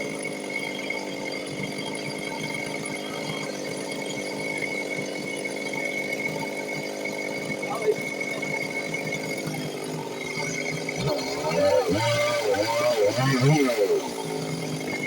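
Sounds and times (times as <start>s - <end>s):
chainsaw idling: 0.0s - 15.0s.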